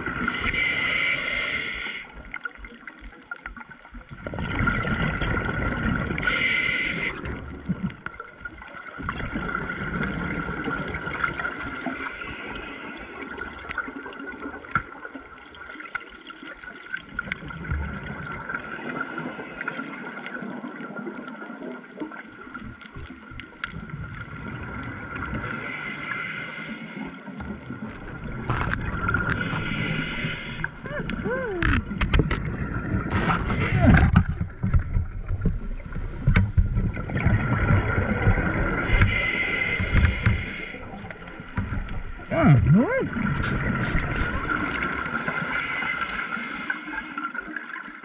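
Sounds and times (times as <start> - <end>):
underwater bubbles gurgling: 0.0 - 48.0.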